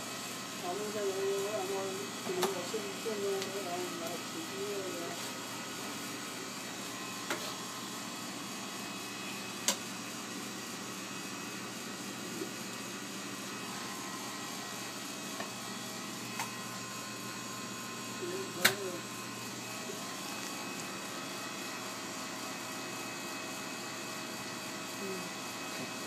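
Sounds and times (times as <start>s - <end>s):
kitchen machine hum: 0.0s - 26.0s.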